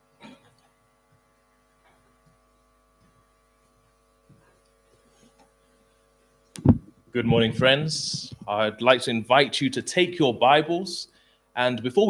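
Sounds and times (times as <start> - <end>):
faint mains hum: 0.0 - 12.0.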